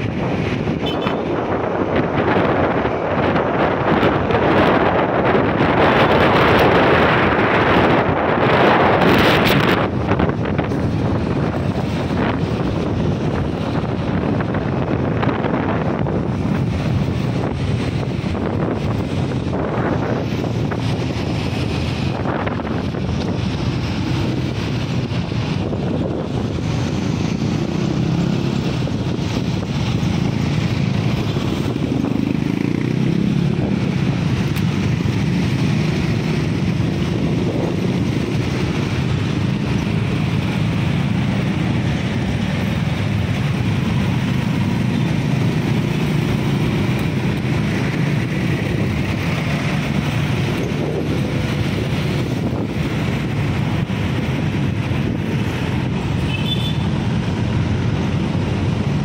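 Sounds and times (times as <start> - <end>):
motorcycle engine hum: 0.0 - 59.0
traffic road noise: 0.0 - 59.0.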